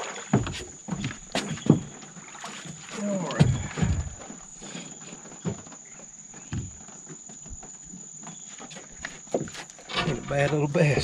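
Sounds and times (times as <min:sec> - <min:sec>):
dull thumps in boat: 0:00.0 - 0:11.0
insects droning: 0:00.0 - 0:11.0.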